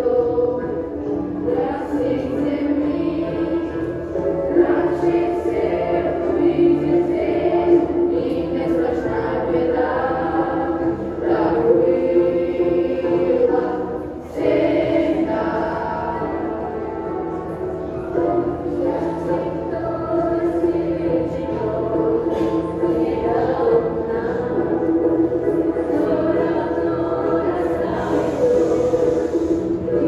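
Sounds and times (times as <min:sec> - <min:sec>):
children singing in chorus: 0:00.0 - 0:30.0.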